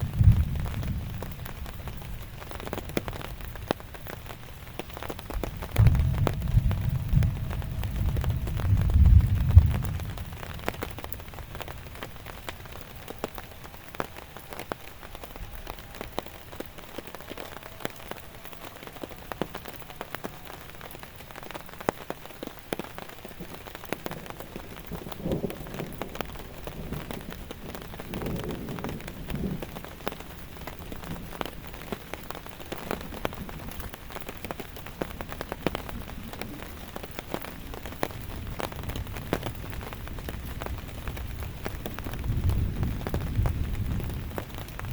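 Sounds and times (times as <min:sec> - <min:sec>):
heavy raindrops clicking on surface: 0:00.0 - 0:44.9
steady rain: 0:00.0 - 0:44.9.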